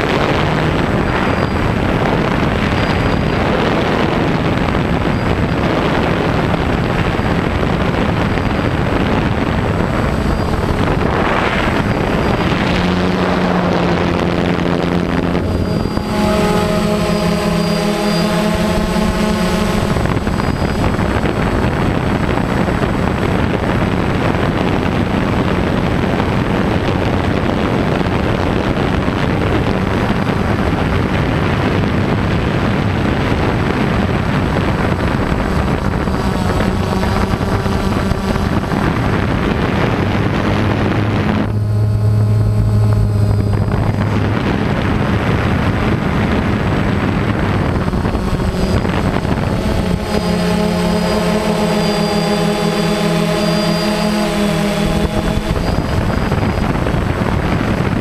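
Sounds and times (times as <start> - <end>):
drone motors and propellers buzzing: 0.0 - 58.0.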